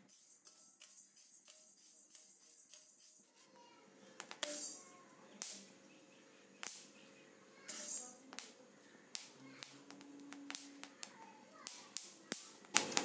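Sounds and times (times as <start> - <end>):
seeds popping in a hot pan: 0.0 - 5.9, 6.6 - 13.0.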